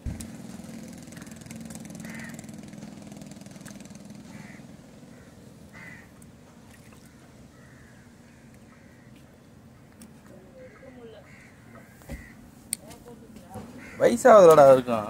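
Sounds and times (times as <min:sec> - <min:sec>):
engine humming: 0:00.0 - 0:12.8
bird calls: 0:00.9 - 0:12.4, 0:13.7 - 0:14.7.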